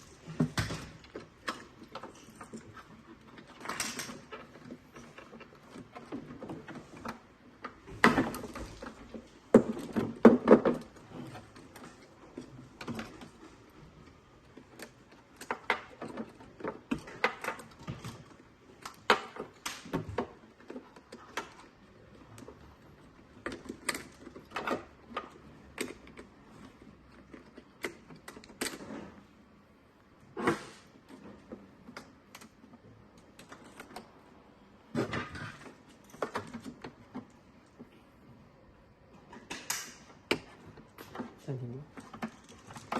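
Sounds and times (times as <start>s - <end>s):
plastic parts clicking and knocking: 0.0s - 42.9s.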